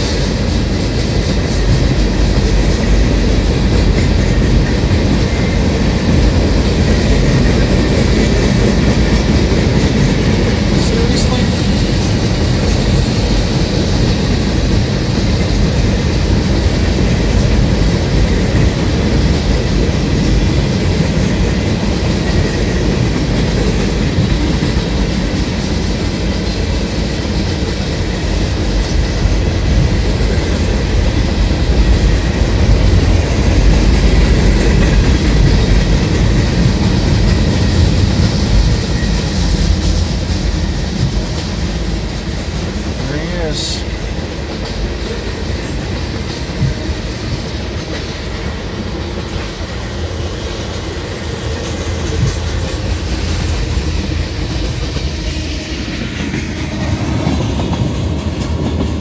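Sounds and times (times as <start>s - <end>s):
clickety-clack rattle: 0.0s - 59.0s
train wheels rumbling on rails: 0.0s - 59.0s.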